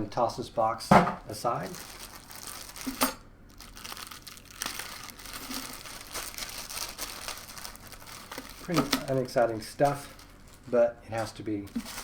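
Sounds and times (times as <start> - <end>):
plastic packaging crinkling: 1.4 - 12.0.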